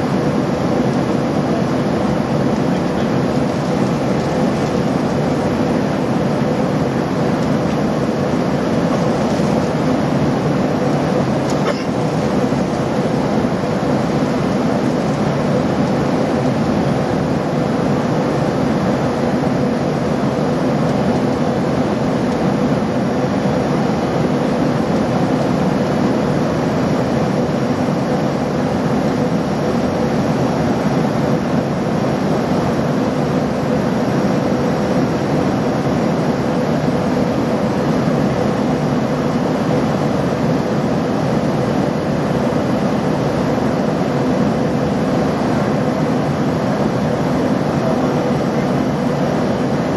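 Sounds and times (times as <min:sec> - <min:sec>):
jet engine drone in cabin: 0:00.0 - 0:49.9
steady hum: 0:00.0 - 0:49.9.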